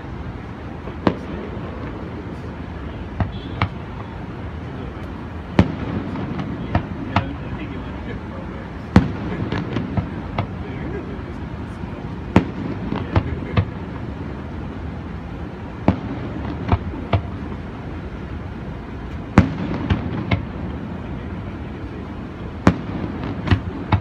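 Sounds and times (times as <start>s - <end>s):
fireworks booming: 0.0s - 24.0s
steady background hiss: 0.0s - 24.0s.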